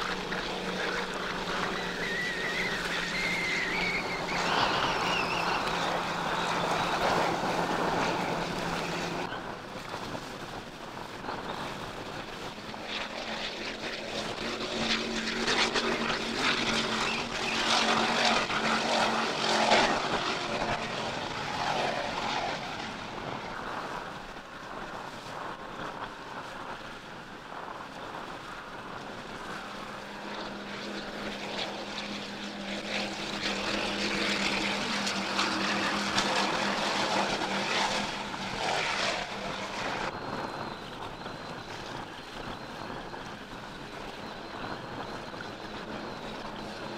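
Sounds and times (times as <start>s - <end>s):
boat engines droning: 0.0s - 46.9s
spray and wind rushing: 0.0s - 46.9s.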